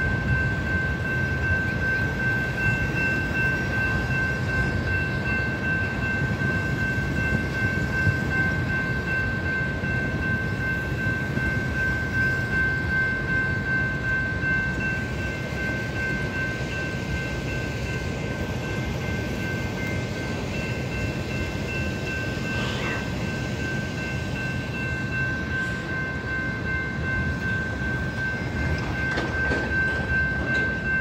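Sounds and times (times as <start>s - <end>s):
crossing warning bell ringing: 0.0s - 31.0s
train wheels rumbling on rail: 0.0s - 31.0s.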